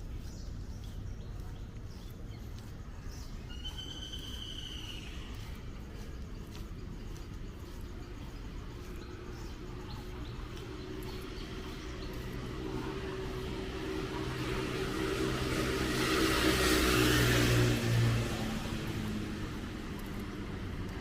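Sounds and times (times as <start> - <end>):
footsteps on damp pavement: 0.0 - 21.0
low traffic hum: 0.0 - 21.0
vehicle engine hum: 0.0 - 21.0.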